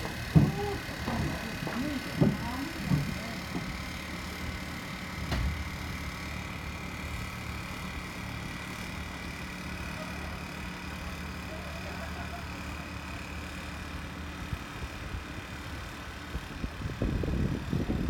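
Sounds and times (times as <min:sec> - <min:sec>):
engine humming with whine: 0:00.0 - 0:18.0.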